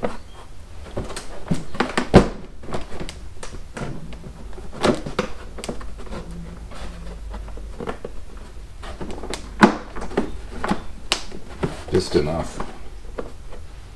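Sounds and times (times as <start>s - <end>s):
trunk liner knocking and scraping: 0.8s - 13.6s.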